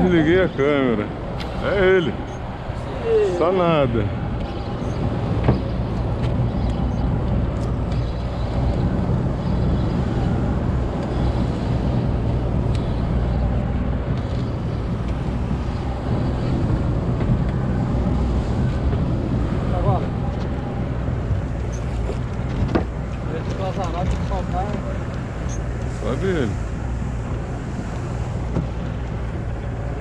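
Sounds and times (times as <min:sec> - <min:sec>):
sea waves: 0:00.0 - 0:30.0
wind: 0:00.0 - 0:30.0.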